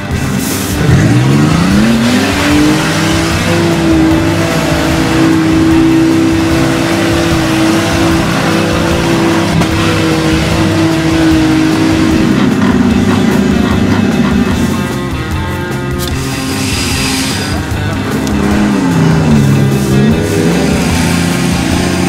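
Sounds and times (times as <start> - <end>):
engine revving high: 0.0 - 22.0.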